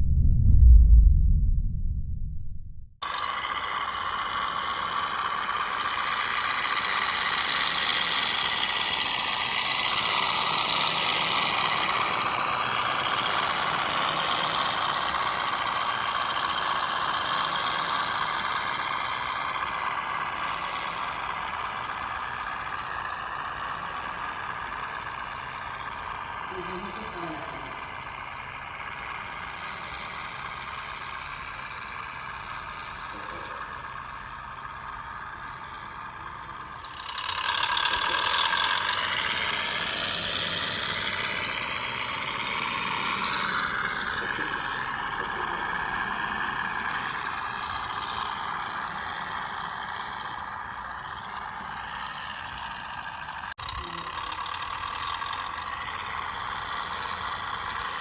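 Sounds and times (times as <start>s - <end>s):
electric motor and gearbox whining: 3.0s - 58.0s.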